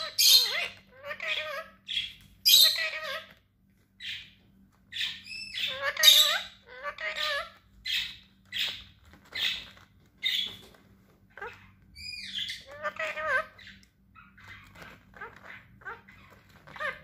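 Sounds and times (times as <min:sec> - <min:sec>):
parrot whistling and chirping: 0:00.0 - 0:03.3, 0:04.1 - 0:10.6, 0:11.4 - 0:17.0
parrot squawking: 0:00.0 - 0:03.4, 0:04.0 - 0:10.6, 0:11.3 - 0:17.0.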